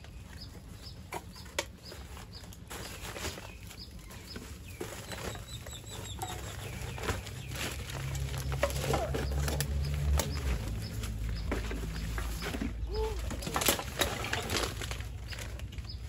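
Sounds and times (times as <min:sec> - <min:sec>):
birds calling: 0:00.0 - 0:16.0
woven plastic sack rustling: 0:00.0 - 0:16.0
plastic litter crackling: 0:00.2 - 0:16.0.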